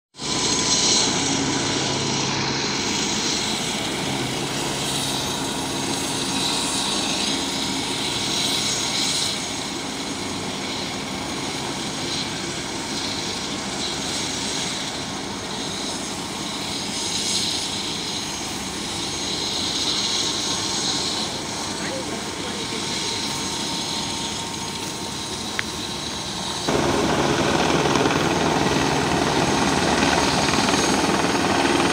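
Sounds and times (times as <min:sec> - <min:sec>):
helicopter engine and rotor noise: 0:00.1 - 0:31.9.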